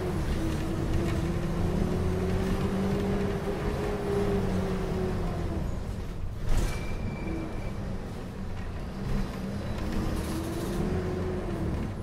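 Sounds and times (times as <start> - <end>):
bus engine hum: 0.0 - 12.0.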